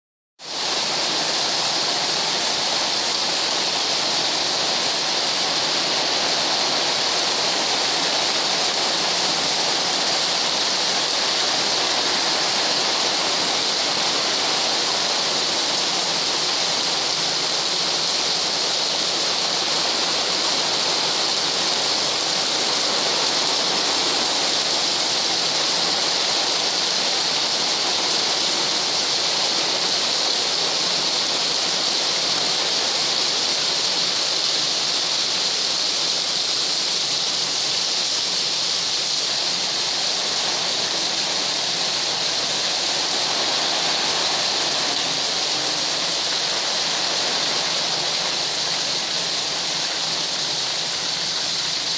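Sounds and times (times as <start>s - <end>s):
heavy rain on pavement: 0.4s - 51.9s.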